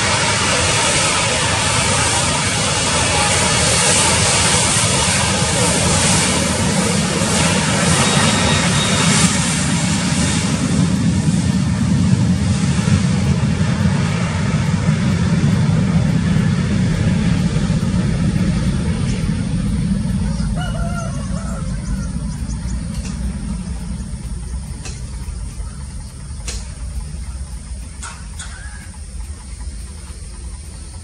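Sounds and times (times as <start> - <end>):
jet engines deep rumble: 0.0 - 31.0.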